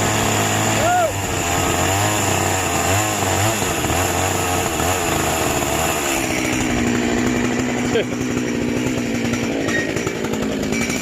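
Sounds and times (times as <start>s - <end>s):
chainsaw cutting: 0.0s - 11.0s.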